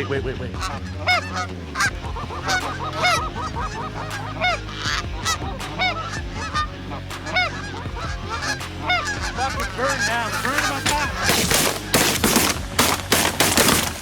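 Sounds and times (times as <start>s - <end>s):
geese honking: 0.4s - 14.0s.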